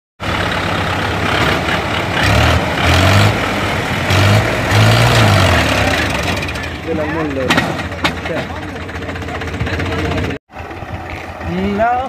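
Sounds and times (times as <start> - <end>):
diesel tractor engines revving: 0.2 - 12.0.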